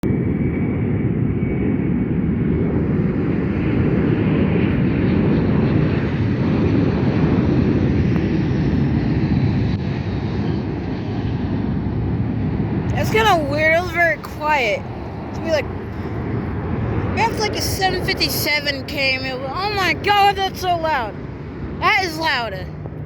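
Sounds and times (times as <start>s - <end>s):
jet engines rumbling: 0.1s - 23.0s.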